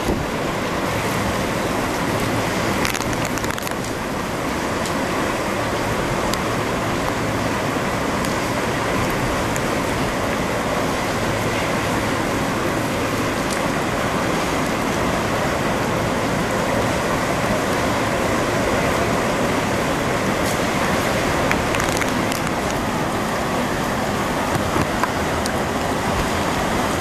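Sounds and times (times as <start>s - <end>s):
hurricane wind: 0.0s - 27.0s
storm surf: 0.0s - 27.0s.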